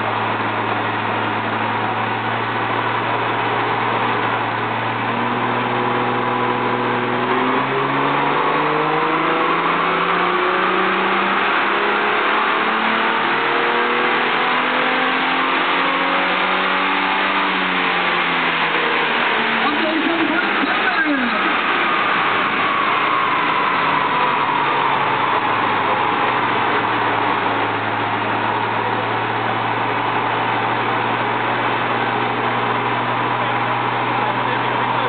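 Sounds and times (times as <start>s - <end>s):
car engine revving on dyno: 0.0s - 35.0s
steady rush of noise: 0.0s - 35.0s.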